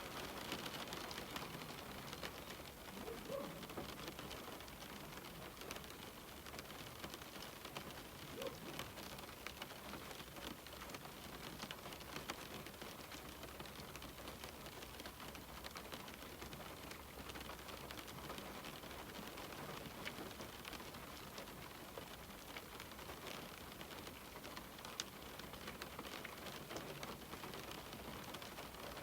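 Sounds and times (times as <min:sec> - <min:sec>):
rain on a window: 0:00.0 - 0:29.0.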